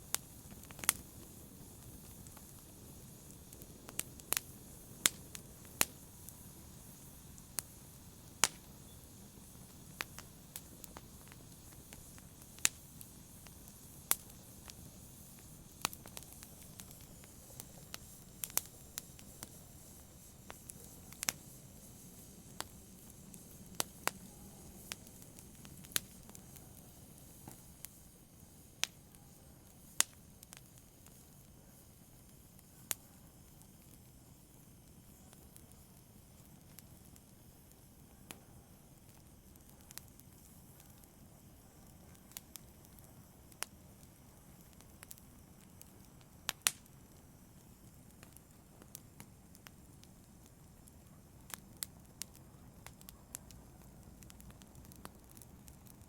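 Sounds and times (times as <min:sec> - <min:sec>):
fire pops and snaps: 0:00.0 - 0:29.1, 0:29.8 - 0:56.0
wood fire hissing: 0:00.0 - 0:56.0.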